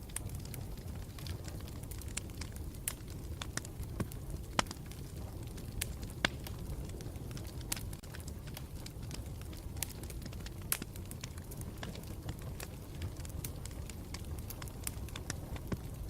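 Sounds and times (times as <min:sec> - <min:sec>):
campfire rumble: 0:00.0 - 0:16.0
fire crackles and pops: 0:00.0 - 0:16.0.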